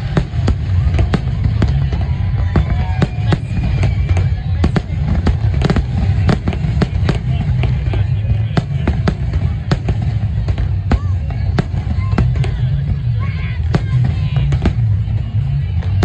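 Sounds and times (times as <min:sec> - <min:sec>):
fireworks banging: 0:00.0 - 0:16.0
low rumble: 0:00.0 - 0:16.0.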